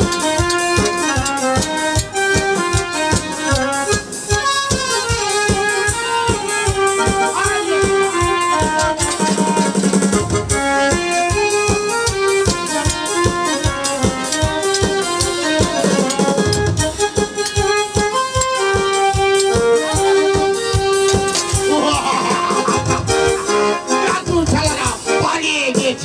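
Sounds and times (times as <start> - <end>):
held-note folk melody: 0.0 - 24.3
steady drum beat: 0.0 - 26.0.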